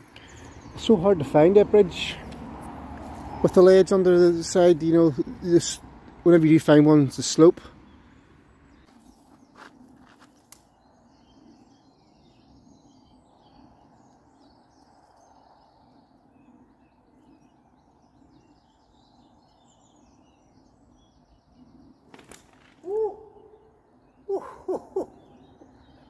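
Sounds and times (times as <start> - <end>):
small birds chirping and singing: 0.0 - 2.6, 3.2 - 26.0
low outdoor rush: 0.0 - 26.0.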